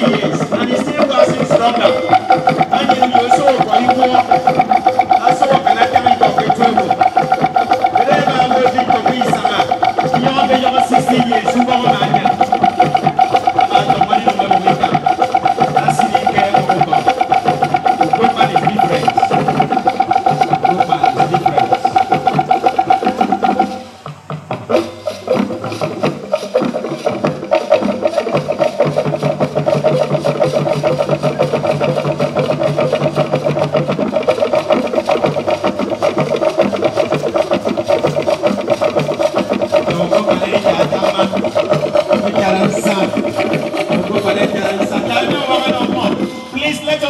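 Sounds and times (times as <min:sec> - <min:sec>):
fast dense percussion: 0:00.0 - 0:47.0
high held tone: 0:00.0 - 0:47.0.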